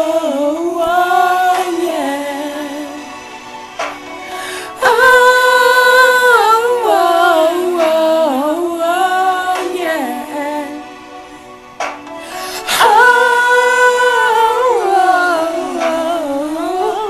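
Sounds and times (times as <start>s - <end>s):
person singing wordless notes: 0.0s - 3.6s, 4.2s - 17.0s.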